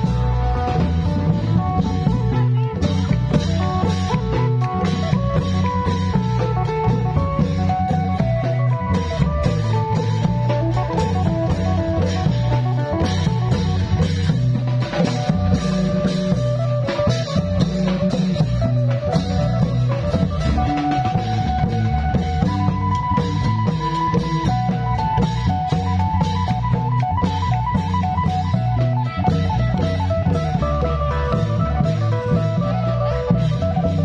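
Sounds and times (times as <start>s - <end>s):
drums: 0.0s - 34.0s
heavy bass line: 0.0s - 34.0s.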